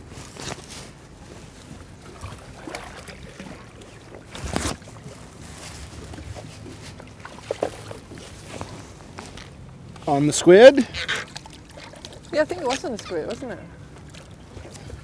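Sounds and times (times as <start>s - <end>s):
water around boat: 0.0s - 15.0s.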